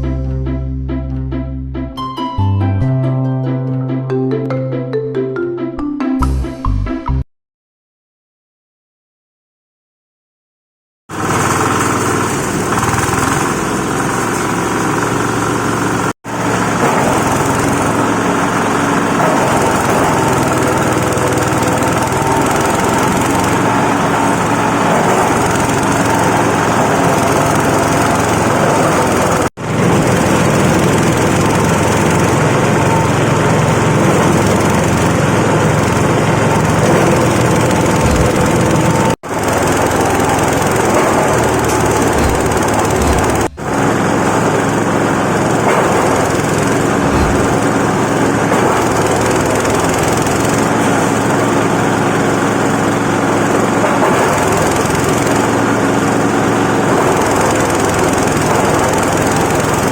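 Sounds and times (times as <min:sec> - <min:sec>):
shredding machine running: 0:11.1 - 0:59.9.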